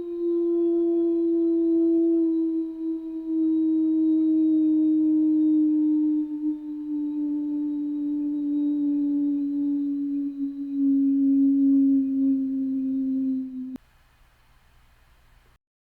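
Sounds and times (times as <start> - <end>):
warning siren low tone: 0.0 - 13.8
faint hiss: 0.0 - 15.6.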